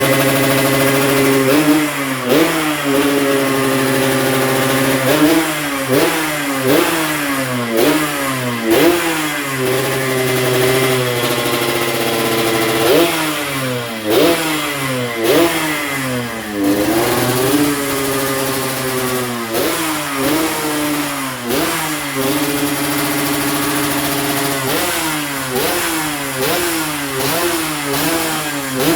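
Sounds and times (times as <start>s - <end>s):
two-stroke motorcycle engine revving: 0.0s - 28.9s.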